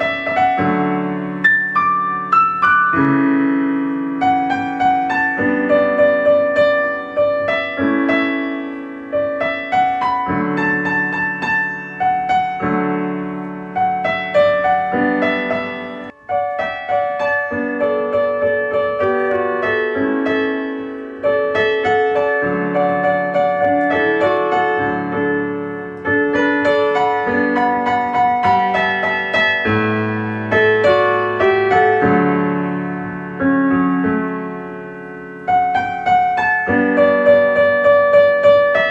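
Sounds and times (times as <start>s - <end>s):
calm piano music: 0.0s - 38.9s.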